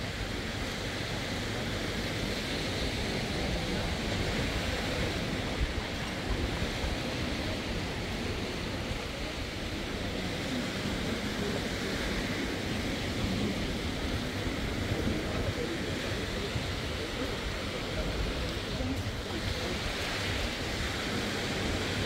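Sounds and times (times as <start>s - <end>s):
sea surf on beach: 0.0s - 22.0s
wind buffeting microphone: 0.0s - 22.0s.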